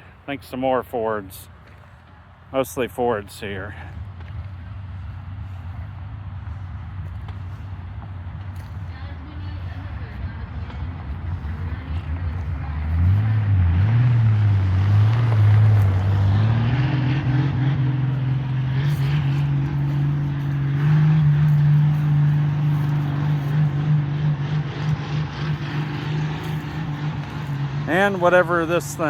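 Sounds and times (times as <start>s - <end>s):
engine running with low hum: 3.4s - 29.0s.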